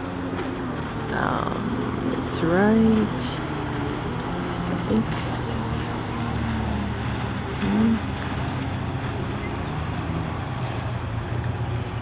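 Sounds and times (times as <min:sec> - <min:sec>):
engine droning: 0:00.0 - 0:12.0
outdoor background noise: 0:00.0 - 0:12.0.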